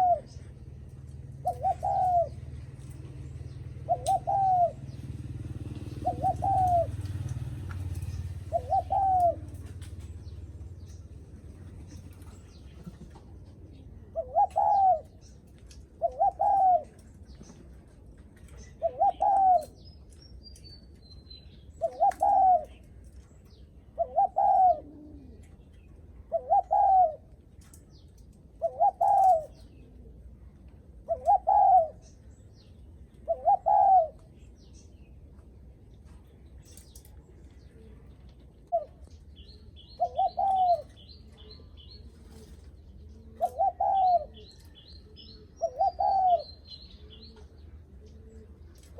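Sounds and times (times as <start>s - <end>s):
small bird chirping: 0.0s - 17.6s, 18.4s - 29.9s, 36.3s - 48.9s
dove cooing: 0.0s - 19.9s, 21.7s - 23.0s, 23.6s - 27.4s, 28.4s - 32.3s, 33.0s - 34.7s, 36.7s - 48.9s.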